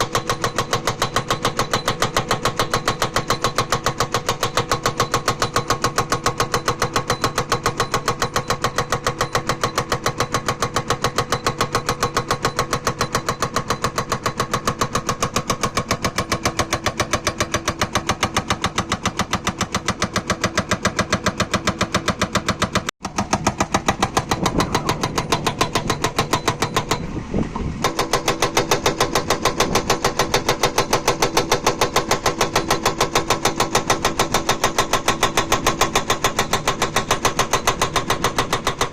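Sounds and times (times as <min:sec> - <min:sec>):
diesel engine: 0:00.0 - 0:38.9
hydraulic breaker hammering stone: 0:00.0 - 0:38.9.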